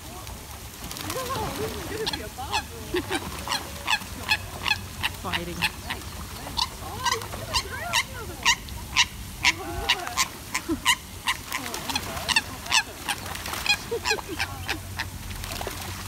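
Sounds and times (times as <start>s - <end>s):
water splashing: 0.0s - 16.0s.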